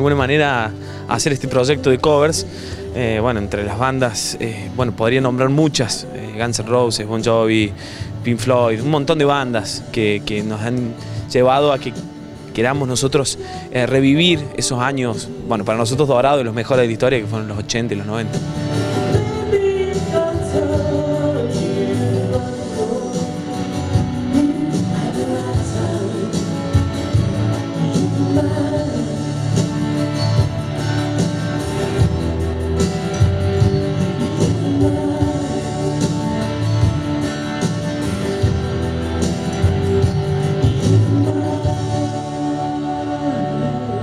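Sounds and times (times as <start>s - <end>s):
man singing: 0.0s - 12.0s, 12.6s - 30.0s, 34.0s - 36.8s, 40.6s - 44.0s
acoustic guitar: 0.0s - 44.0s
electric guitar: 0.0s - 44.0s.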